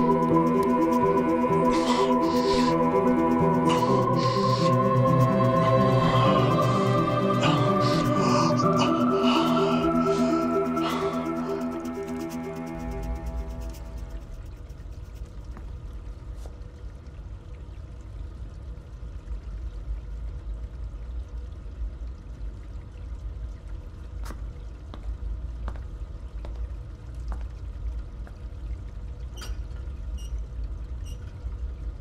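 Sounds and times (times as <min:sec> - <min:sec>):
faint hum: 0:00.0 - 0:32.0
low ambient rumble: 0:00.0 - 0:32.0.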